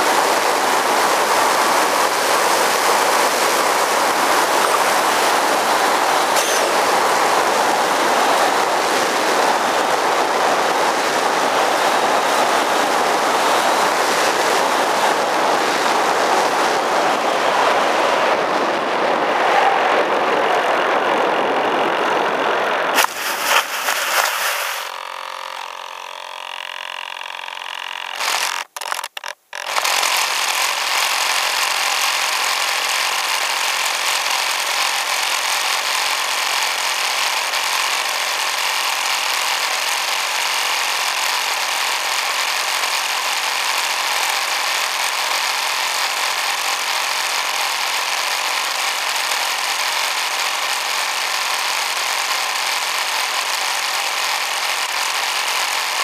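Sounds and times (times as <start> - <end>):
model plane motor and propeller: 0.0 - 17.4, 23.0 - 56.0.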